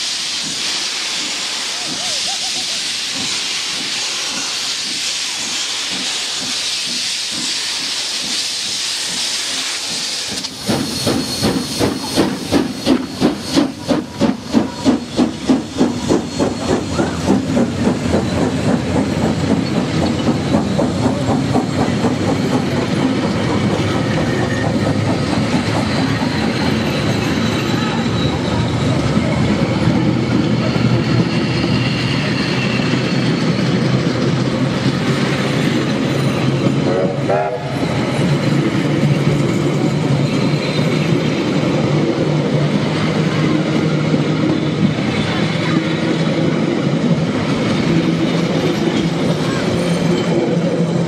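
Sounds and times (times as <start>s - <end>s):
steam hissing: 0.0s - 51.0s
steam locomotive exhaust chuffs: 0.0s - 51.0s
train carriages clickety-clack: 0.0s - 51.0s.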